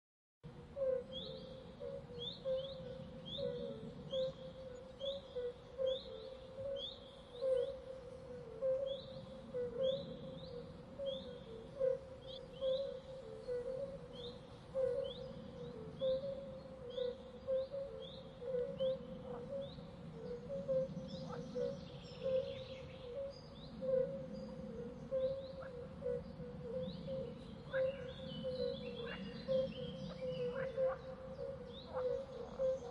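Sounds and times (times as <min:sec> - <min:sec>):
low pulsing animal calls: 0:00.5 - 0:32.9.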